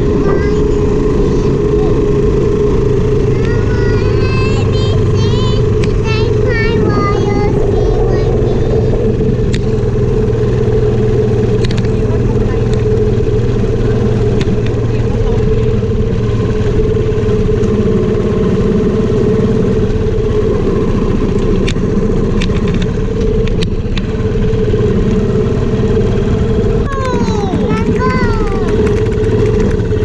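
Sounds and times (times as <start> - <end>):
scooter engine hum: 0.0 - 30.0
wind rumble on microphone: 0.0 - 30.0.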